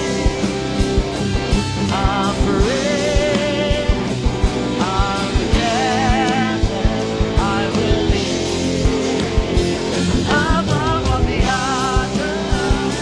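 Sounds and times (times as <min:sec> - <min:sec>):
person singing: 0:00.0 - 0:13.0
steady drum beat: 0:00.0 - 0:13.0.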